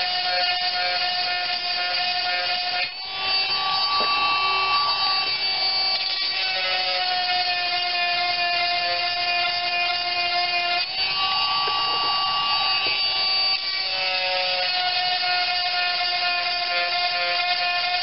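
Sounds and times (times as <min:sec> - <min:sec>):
chainsaw sharpener motor whining: 0:00.0 - 0:18.0.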